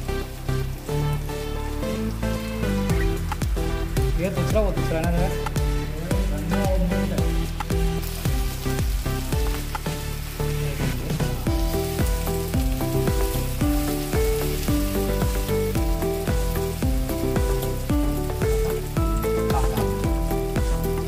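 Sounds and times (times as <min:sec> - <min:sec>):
background music with bass: 0:00.0 - 0:21.0
chicken sizzling in frying pan: 0:00.0 - 0:21.0.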